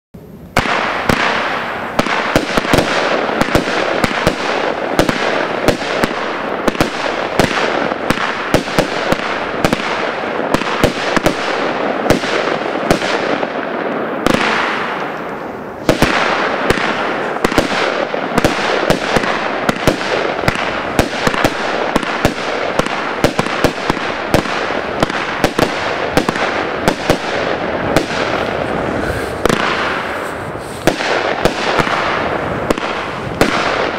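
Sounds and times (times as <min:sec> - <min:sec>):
firework bangs: 0:00.2 - 0:33.9.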